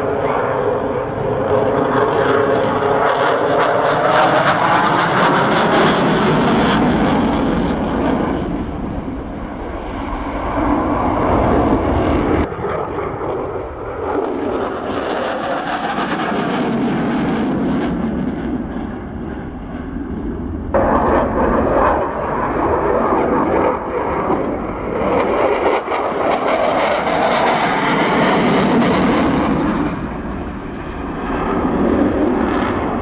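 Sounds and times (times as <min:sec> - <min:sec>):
jet fighter engine roar: 0:00.0 - 0:33.0.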